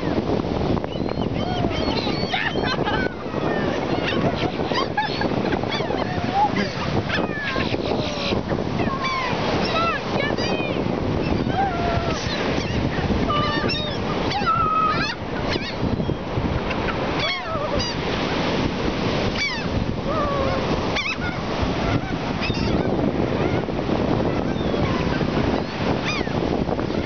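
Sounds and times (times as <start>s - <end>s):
surf washing: 0.0s - 27.0s
wind: 0.0s - 27.0s
seagulls calling: 0.8s - 18.3s, 19.3s - 27.0s.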